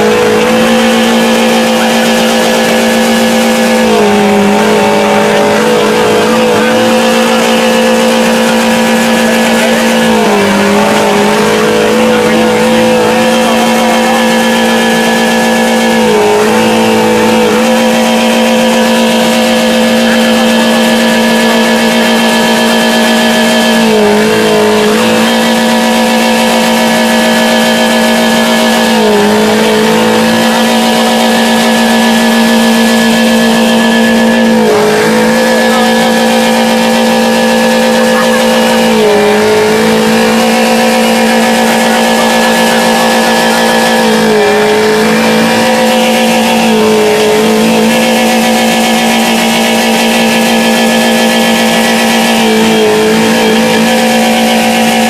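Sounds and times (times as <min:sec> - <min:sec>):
car engine revving at high pitch: 0:00.0 - 0:55.0.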